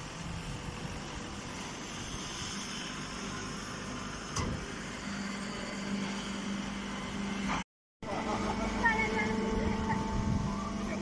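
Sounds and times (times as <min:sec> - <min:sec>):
baler mechanical noise: 0:00.0 - 0:11.0
steady low hum: 0:00.0 - 0:11.0.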